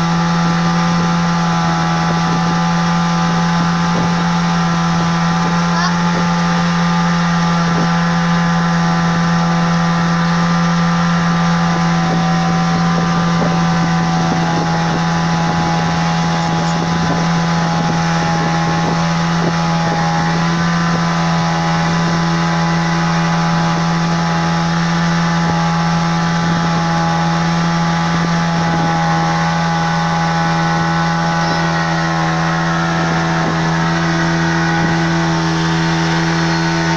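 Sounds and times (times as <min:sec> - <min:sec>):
motorboat engine running: 0:00.0 - 0:36.9.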